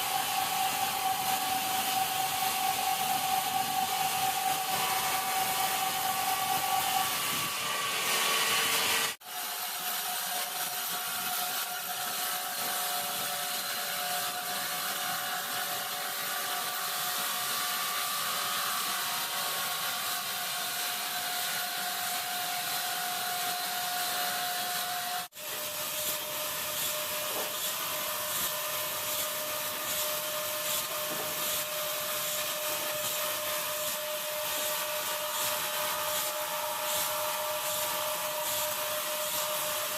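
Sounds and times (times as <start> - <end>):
faint saw whine: 0.0 - 39.9
saw blade hissing through wood: 0.0 - 39.9.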